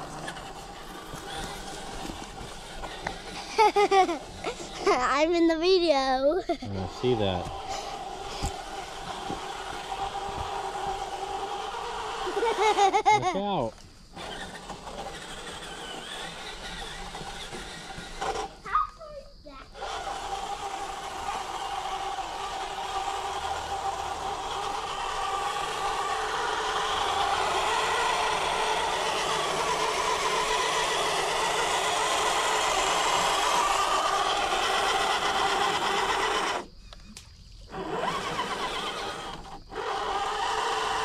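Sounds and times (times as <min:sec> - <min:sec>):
electric motor and gears whining: 0:00.0 - 0:41.0.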